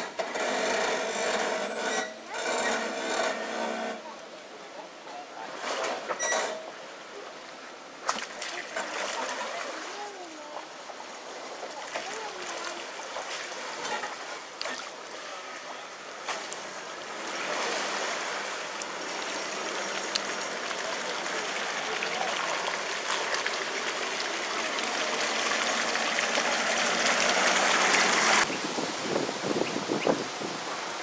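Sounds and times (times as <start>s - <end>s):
muddy water sloshing around tyres: 5.1s - 31.0s.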